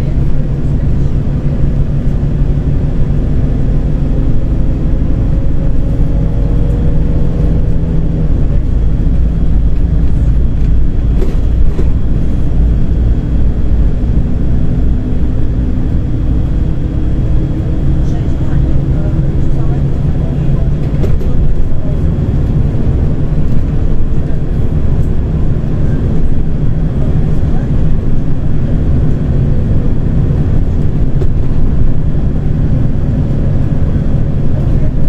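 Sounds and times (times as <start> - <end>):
bus engine and road rumble: 0.0 - 35.0.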